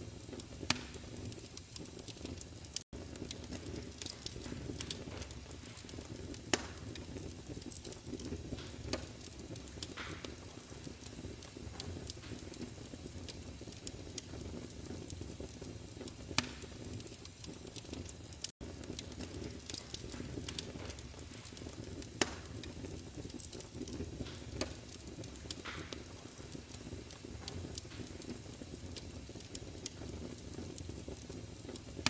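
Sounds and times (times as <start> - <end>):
fire crackles and pops: 0.0 - 32.0
wood fire burning: 0.0 - 32.0.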